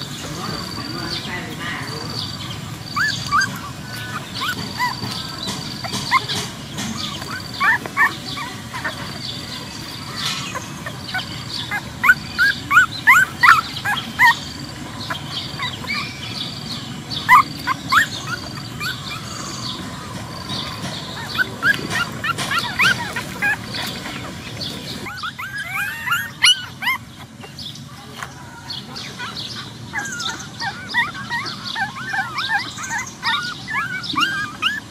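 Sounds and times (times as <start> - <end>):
puppies squeaking and whimpering: 0.0 - 34.9.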